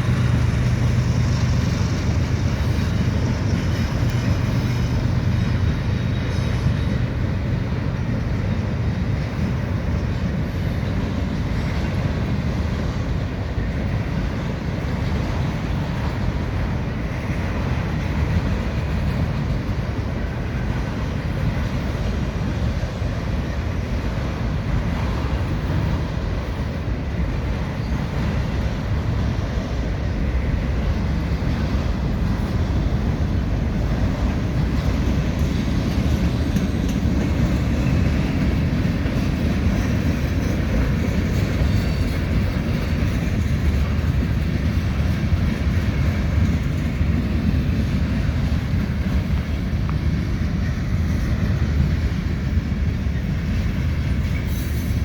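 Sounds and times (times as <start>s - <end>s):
freight train wheels rumbling on rail: 0.0s - 55.0s.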